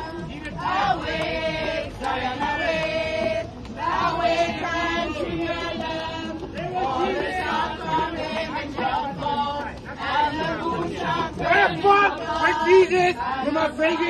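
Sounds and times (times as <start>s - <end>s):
group singing gospel: 0.0s - 14.0s.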